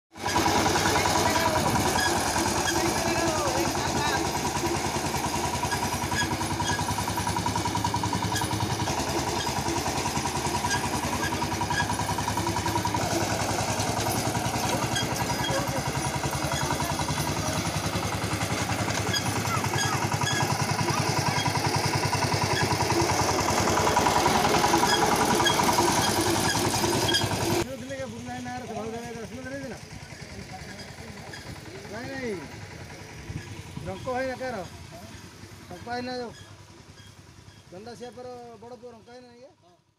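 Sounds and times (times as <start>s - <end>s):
diesel engine running: 0.1s - 39.9s.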